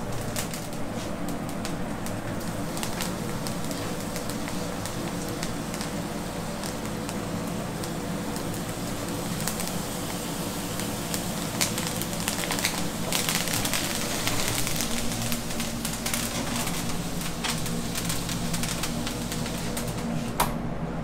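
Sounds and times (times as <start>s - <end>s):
kitchen extractor hum: 0.0s - 21.0s
steak sizzling in a pan: 2.3s - 19.6s.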